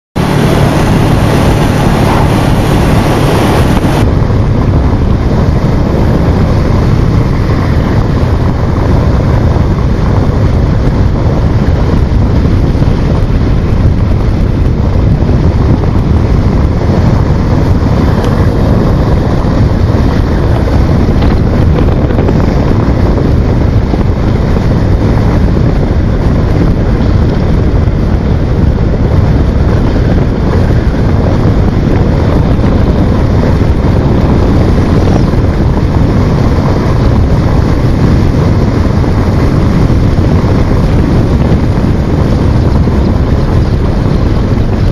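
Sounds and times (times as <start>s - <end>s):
motorcycle engine running: 0.2s - 44.9s
wind rushing over microphone: 0.2s - 44.9s.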